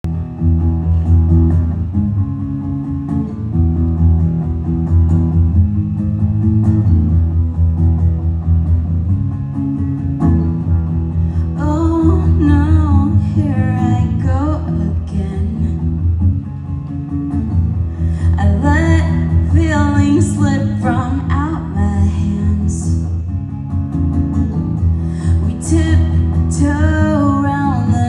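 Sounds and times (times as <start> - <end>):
guitar playing: 0.0 - 28.0.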